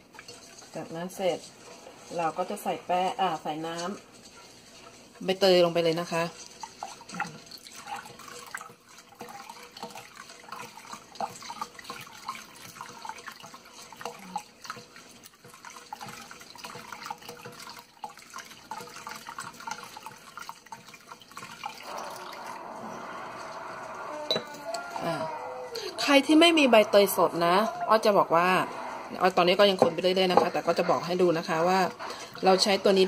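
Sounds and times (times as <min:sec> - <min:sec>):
liquid pouring into bowl: 0:00.0 - 0:33.0.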